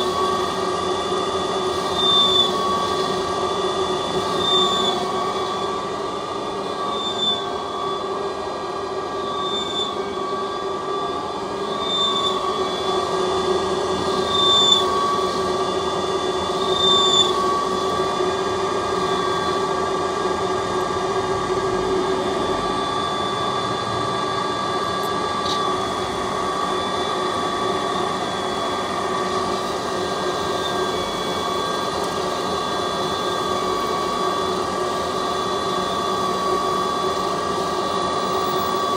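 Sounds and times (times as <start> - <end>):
lathe hum and whine: 0.0 - 38.9.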